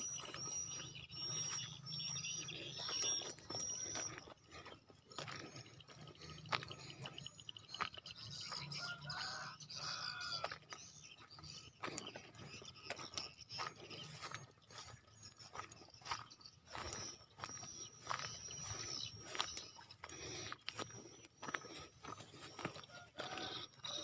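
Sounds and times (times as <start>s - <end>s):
faint bird calls: 0.0s - 24.0s
footsteps crunching on a track: 0.0s - 24.0s.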